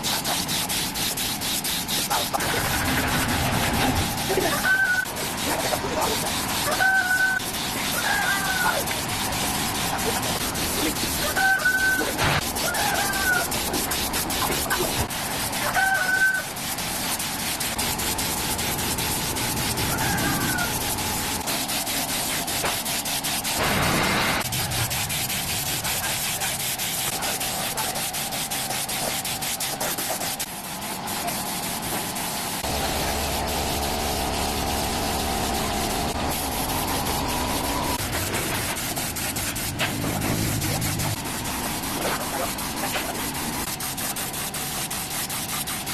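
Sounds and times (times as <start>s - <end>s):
hand sanding a surface: 0.0s - 45.9s.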